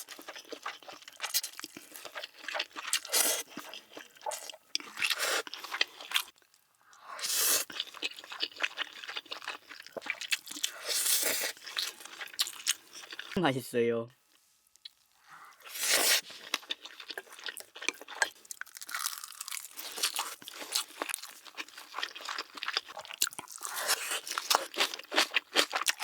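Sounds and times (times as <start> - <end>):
person crunching and chewing food: 0.0 - 13.4, 14.7 - 26.0.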